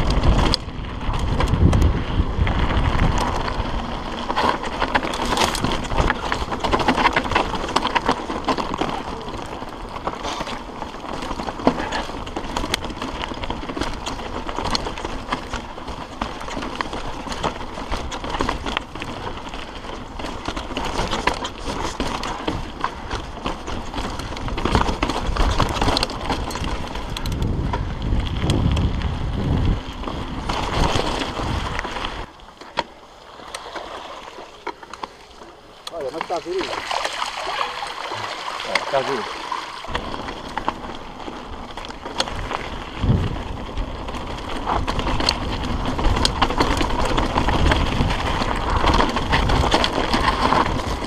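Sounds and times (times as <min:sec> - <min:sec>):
wind rumble on microphone: 0:00.0 - 0:32.3, 0:39.9 - 0:51.0
bike clattering over bumps: 0:00.0 - 0:51.0
bike tyres crunching on gravel: 0:00.0 - 0:51.0.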